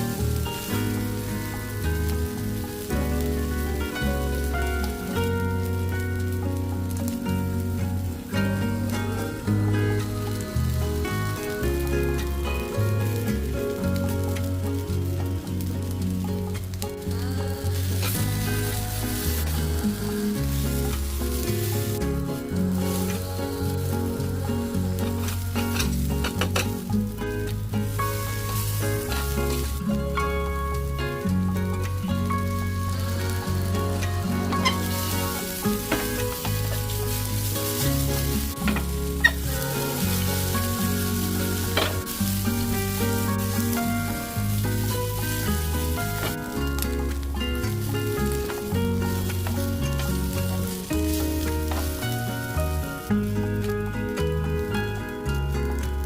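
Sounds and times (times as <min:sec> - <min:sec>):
stirring in a pan: 0:00.0 - 0:54.6
background music with bassline: 0:00.0 - 0:56.0
food sizzling in a pan: 0:00.0 - 0:56.0.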